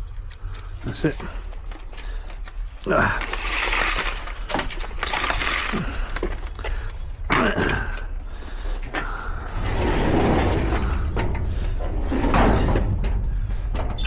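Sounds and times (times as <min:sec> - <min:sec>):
hard objects clattering and scraping: 0:00.2 - 0:14.0.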